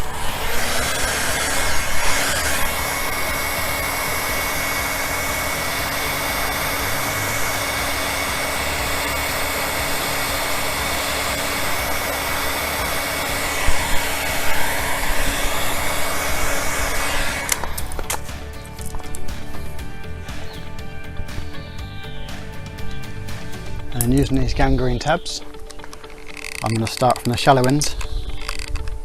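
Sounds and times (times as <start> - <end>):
heat gun fan whine: 0.0 - 21.6, 22.7 - 29.0.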